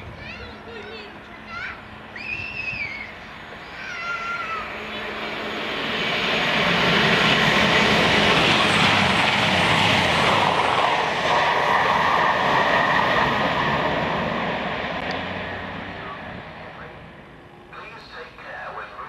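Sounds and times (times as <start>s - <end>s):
train rushing past: 0.0s - 19.0s.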